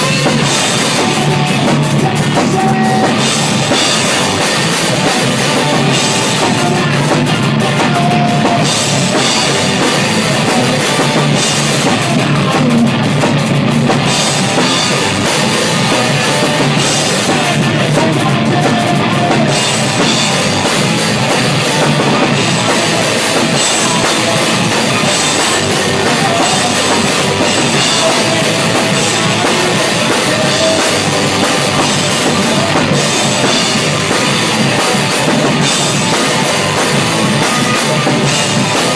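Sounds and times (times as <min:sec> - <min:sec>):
drum kit: 0:00.0 - 0:38.9
rock band playing: 0:00.0 - 0:38.9.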